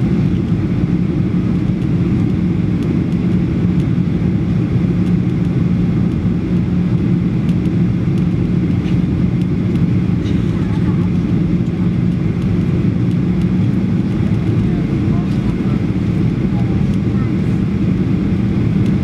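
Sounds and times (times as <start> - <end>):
airplane cabin drone: 0.0 - 19.0.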